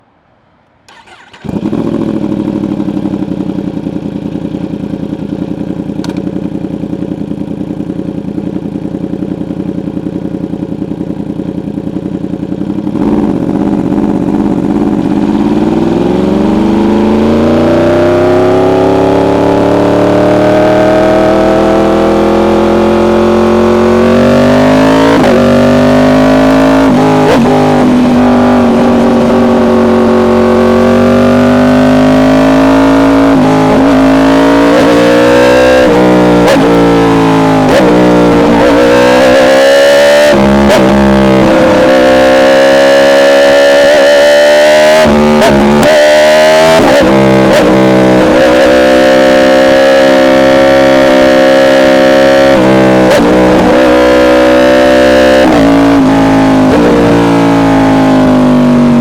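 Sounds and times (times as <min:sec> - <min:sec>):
motorcycle engine revving: 0:00.9 - 0:59.0.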